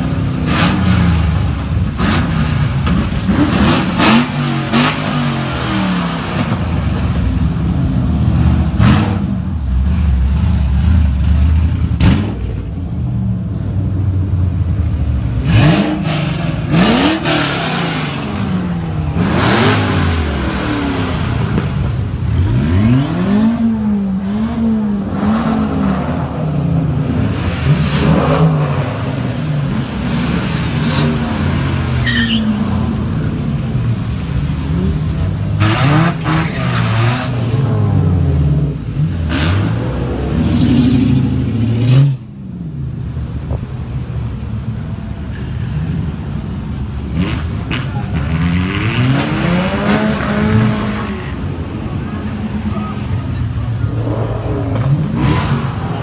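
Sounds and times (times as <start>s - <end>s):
cars driving past revving: 0.0s - 56.0s.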